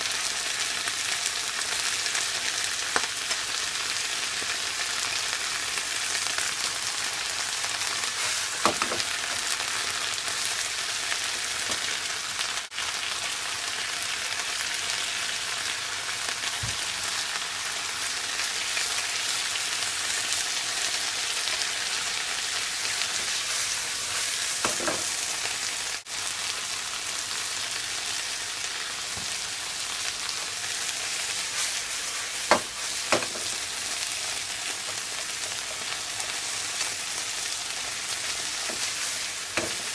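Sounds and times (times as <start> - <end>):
cabbage sizzling in a pan: 0.0 - 39.9.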